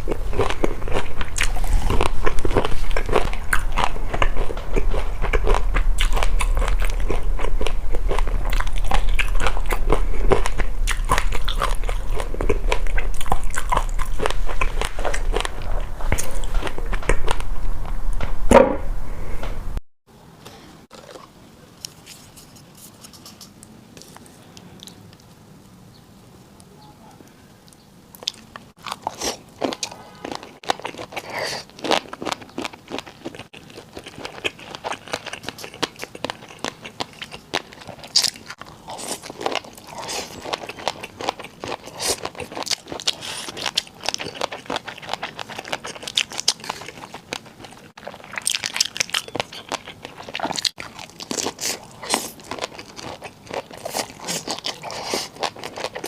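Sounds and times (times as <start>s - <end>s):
chewing crunchy food: 0.0s - 17.5s, 20.9s - 25.4s, 27.6s - 56.0s.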